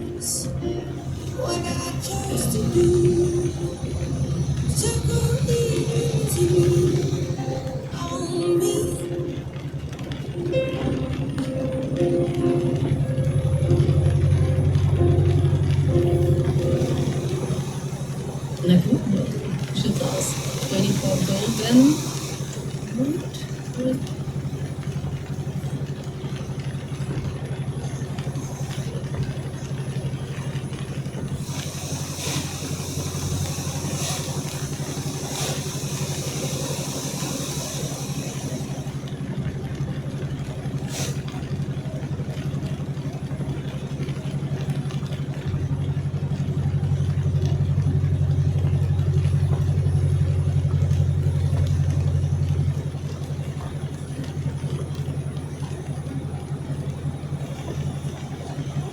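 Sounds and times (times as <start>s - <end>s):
car engine running: 0.0s - 58.9s.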